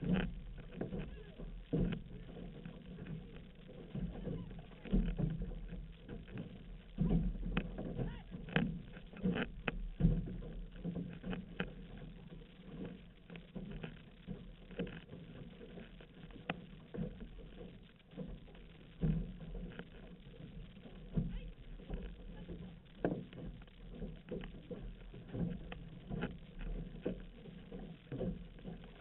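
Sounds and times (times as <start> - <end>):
paddles pulling through water: 0.0 - 29.0
water rushing along hull: 0.0 - 29.0.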